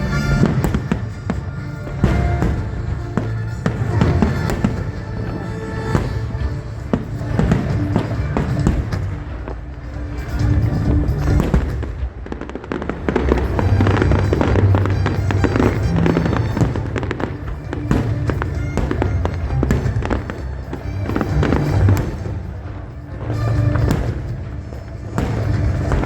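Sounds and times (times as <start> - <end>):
fireworks bursting and crackling: 0.0 - 26.0
music: 0.0 - 26.0.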